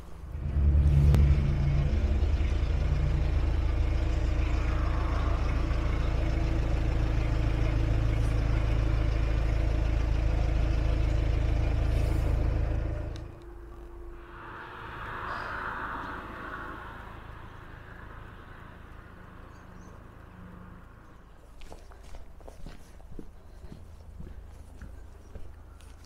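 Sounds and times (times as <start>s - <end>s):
diesel engine running: 0.0s - 21.1s.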